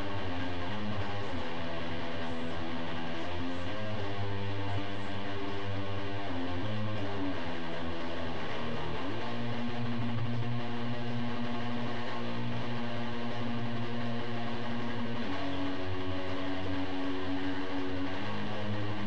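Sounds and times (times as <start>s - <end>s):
electric guitar held notes: 0.0s - 19.0s.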